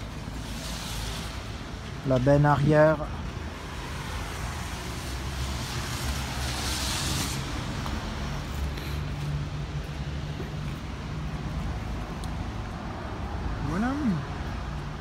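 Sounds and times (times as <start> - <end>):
traffic hiss: 0.0 - 15.0.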